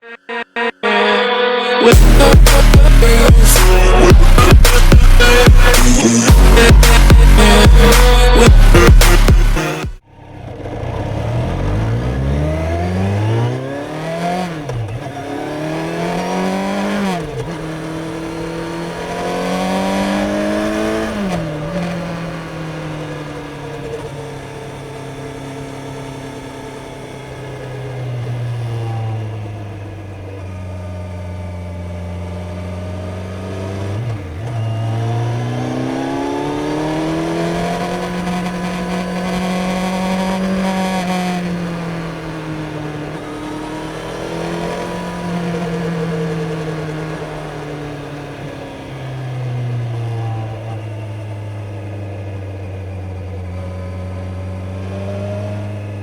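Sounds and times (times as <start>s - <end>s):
motorcycle engine revving: 1.9s - 56.0s.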